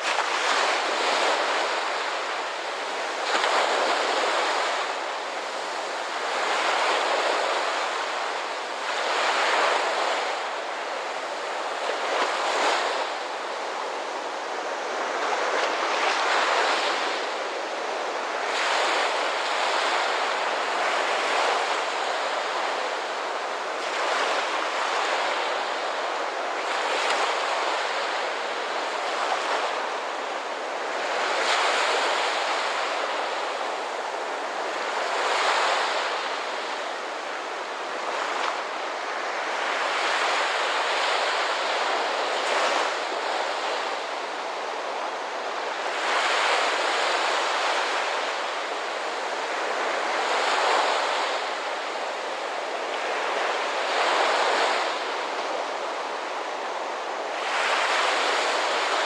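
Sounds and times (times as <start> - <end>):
ocean surf washing ashore: 0.0 - 59.0.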